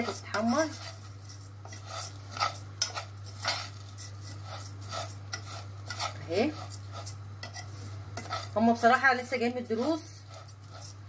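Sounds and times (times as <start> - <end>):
metal spoon scraping a pot: 0.0 - 8.9, 9.7 - 11.0.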